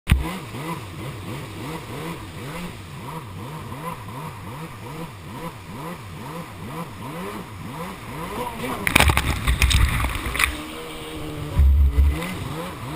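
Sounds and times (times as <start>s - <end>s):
jet ski engine running: 0.1s - 12.9s.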